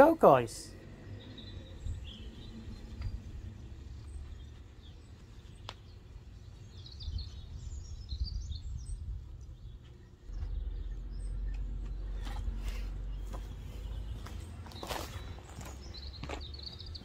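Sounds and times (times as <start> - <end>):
steady low rumble: 0.7 - 14.5.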